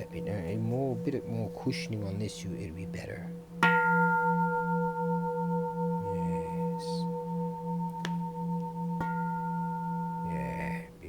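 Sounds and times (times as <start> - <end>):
temple bell ringing: 0.0 - 11.0.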